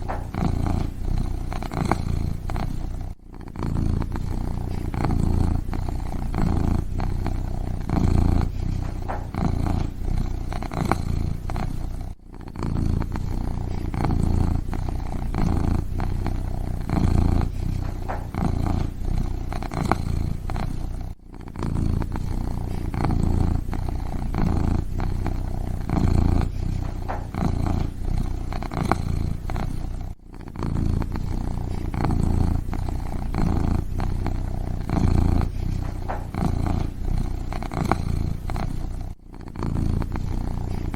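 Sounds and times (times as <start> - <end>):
kitten purring: 0.0 - 40.9.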